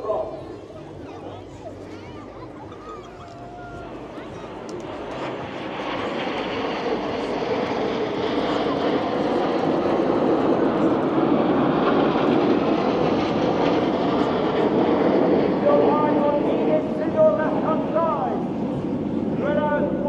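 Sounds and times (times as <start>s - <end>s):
jets flying past: 0.0s - 20.0s.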